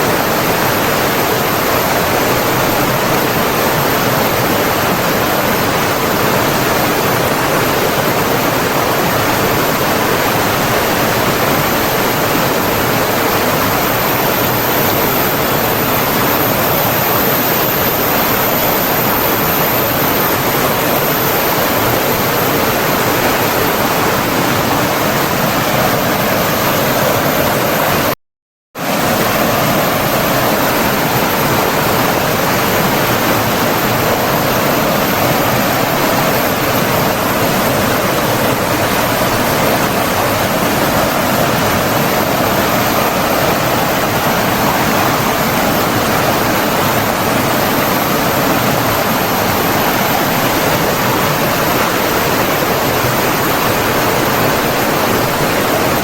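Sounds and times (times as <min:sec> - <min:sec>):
flowing water rushing: 0:00.0 - 0:28.0, 0:28.8 - 0:56.0.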